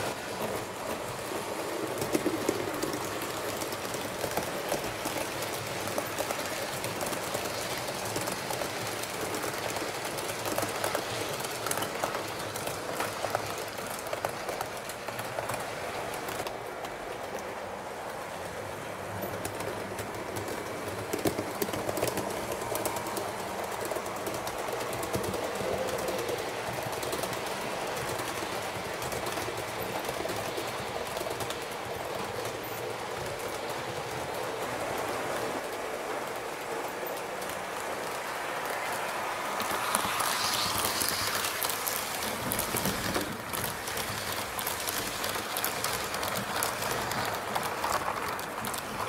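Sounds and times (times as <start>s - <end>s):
train rolling on track: 0.0s - 49.0s.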